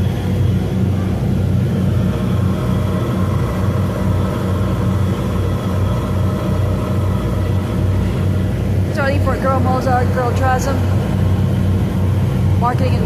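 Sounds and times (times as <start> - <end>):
ferry engines droning: 0.0 - 13.0
steady rushing noise: 0.0 - 13.0.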